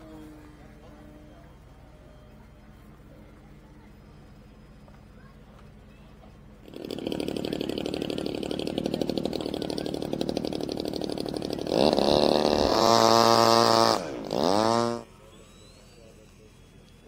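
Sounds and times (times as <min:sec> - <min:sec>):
model airplane engine revving: 0:00.0 - 0:05.1, 0:06.2 - 0:17.0.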